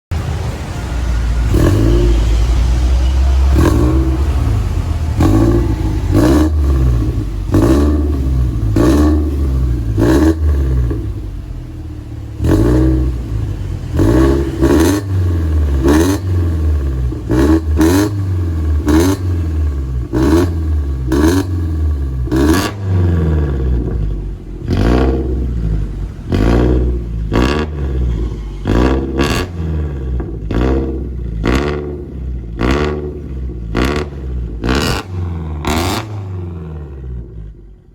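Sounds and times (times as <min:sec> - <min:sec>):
car engine revving: 0:00.1 - 0:37.9.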